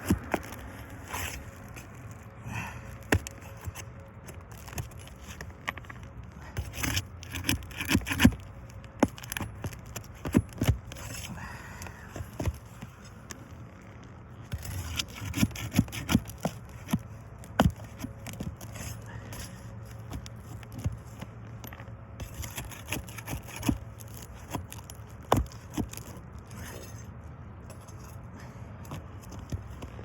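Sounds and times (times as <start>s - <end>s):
tool scraping roofing shingles: 0.0s - 27.1s.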